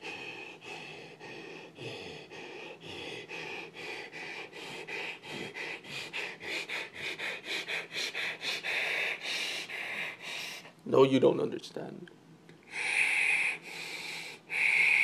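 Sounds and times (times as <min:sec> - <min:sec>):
dog breathing rhythmically: 0:00.0 - 0:10.8, 0:12.7 - 0:15.0.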